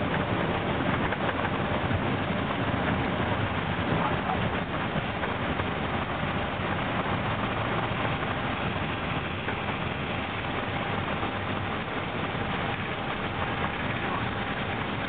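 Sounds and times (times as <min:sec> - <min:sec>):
aircraft rolling rumble: 0:00.0 - 0:15.0
faint steady whine: 0:00.0 - 0:15.0.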